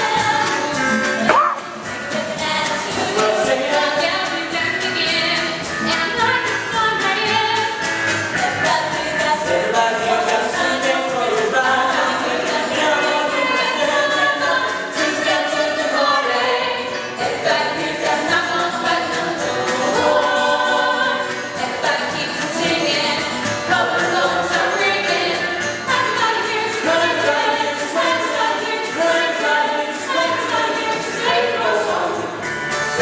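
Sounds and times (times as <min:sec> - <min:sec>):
mixed chorus singing: 0:00.0 - 0:33.0.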